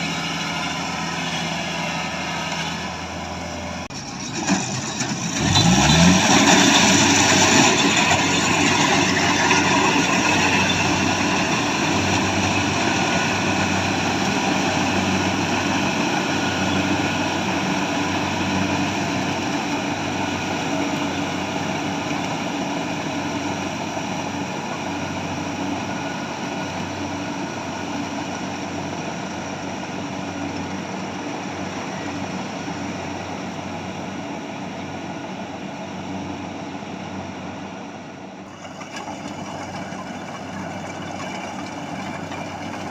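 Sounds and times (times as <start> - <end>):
combine harvester hum: 0.0 - 42.9.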